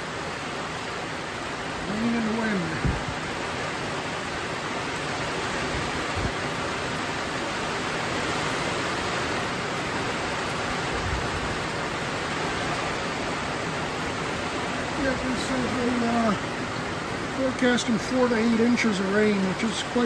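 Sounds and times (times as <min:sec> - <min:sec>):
heavy rain pouring: 0:00.0 - 0:20.0
wind: 0:00.0 - 0:20.0.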